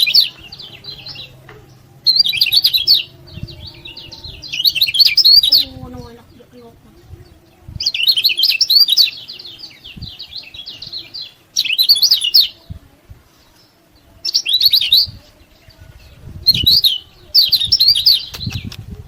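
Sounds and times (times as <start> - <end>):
bird chirping trills: 0.0 - 18.8.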